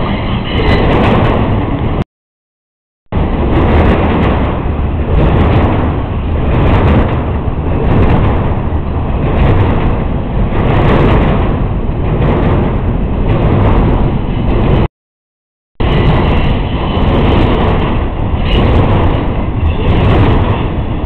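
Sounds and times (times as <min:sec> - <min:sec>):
freight train rumbling past: 0:00.0 - 0:02.0, 0:03.1 - 0:14.9, 0:15.8 - 0:21.0.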